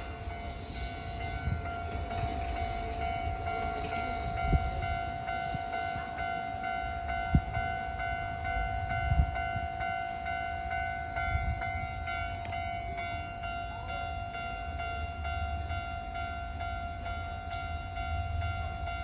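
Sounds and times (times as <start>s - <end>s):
level-crossing alarm ringing: 0.0s - 19.0s.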